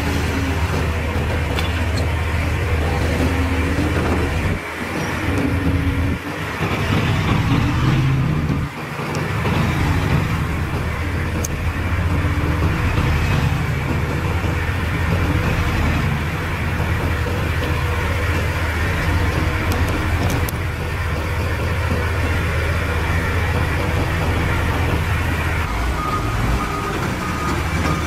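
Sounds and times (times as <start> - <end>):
heavy diesel engines under load: 0.0 - 28.0.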